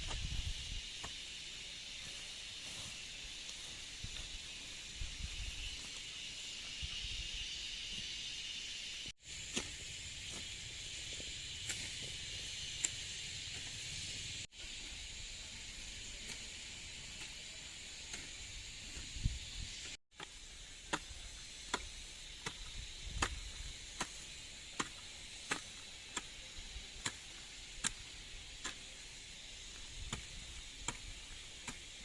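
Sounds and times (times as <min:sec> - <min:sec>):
high-pitched outdoor hiss: 0:00.0 - 0:32.0.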